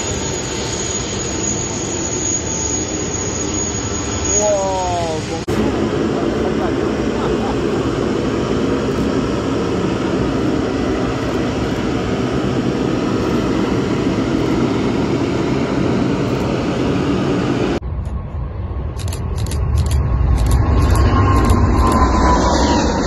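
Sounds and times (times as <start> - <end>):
jet engines running: 0.0 - 23.0
jet takeoff rumble: 0.0 - 23.0.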